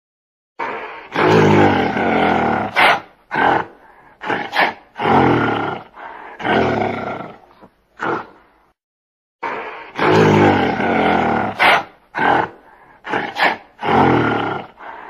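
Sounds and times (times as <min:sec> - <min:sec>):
large animal roaring and growling: 0:01.1 - 0:08.4, 0:09.9 - 0:14.8.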